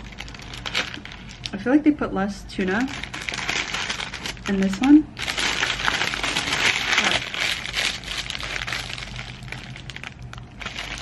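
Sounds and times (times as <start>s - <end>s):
paper wrapper crinkling: 0.0s - 1.6s, 2.6s - 11.0s.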